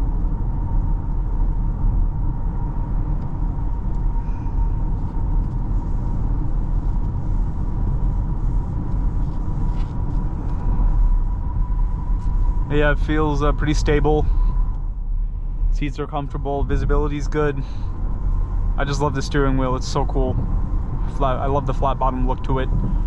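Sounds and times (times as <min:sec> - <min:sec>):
car engine: 0:00.0 - 0:23.0
faint steady whine: 0:00.0 - 0:23.0
road and tyre rumble: 0:00.0 - 0:23.0.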